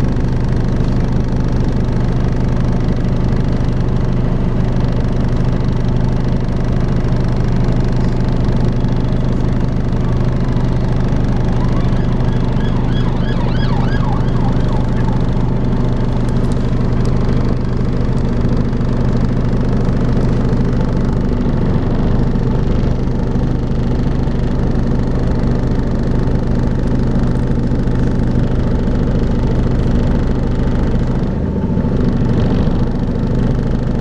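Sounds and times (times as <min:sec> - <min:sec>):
bus engine low drone: 0:00.0 - 0:34.0.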